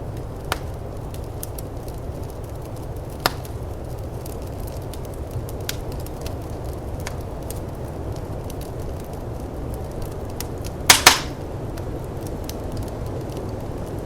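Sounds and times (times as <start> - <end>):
fire snapping loudly: 0.0 - 14.0
firepit crackling and popping: 0.0 - 14.0.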